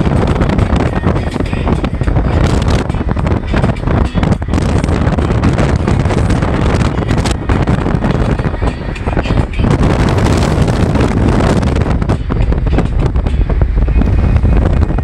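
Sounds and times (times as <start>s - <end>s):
car engine and road noise: 0.0s - 15.0s
wind buffeting microphone: 0.0s - 15.0s.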